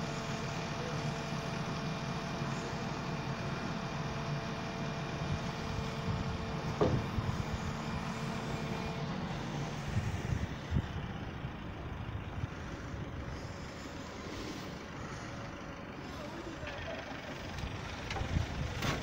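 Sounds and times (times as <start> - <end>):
engine and hydraulic hum: 0.0 - 19.0.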